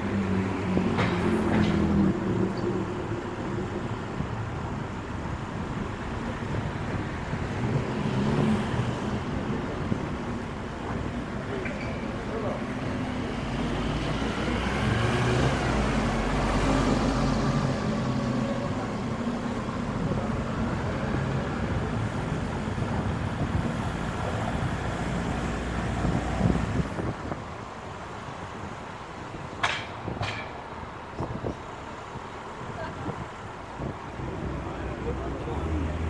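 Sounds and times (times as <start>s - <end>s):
car engine hum and tyre noise: 0.0s - 36.0s.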